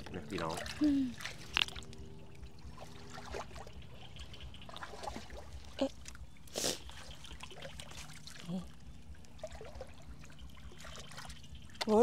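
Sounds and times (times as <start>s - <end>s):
small water splashes: 0.0s - 12.0s
water trickling: 0.0s - 12.0s.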